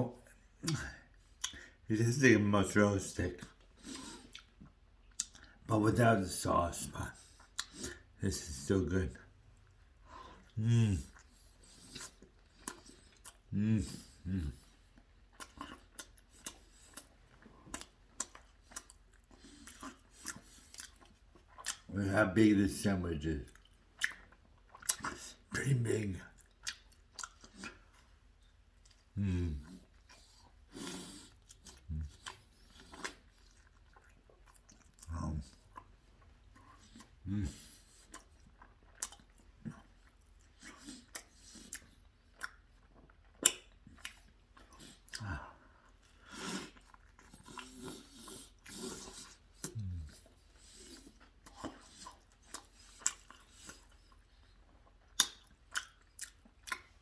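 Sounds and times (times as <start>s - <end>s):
man eating a sandwich: 0.0s - 57.0s
person chewing food: 0.1s - 1.8s, 3.4s - 5.7s, 7.0s - 22.0s, 23.3s - 57.0s.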